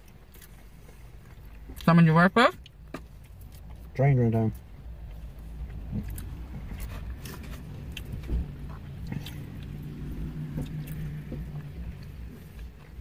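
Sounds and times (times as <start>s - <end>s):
people chewing food: 0.0s - 1.9s, 2.5s - 13.0s
low steady rumble: 0.0s - 13.0s.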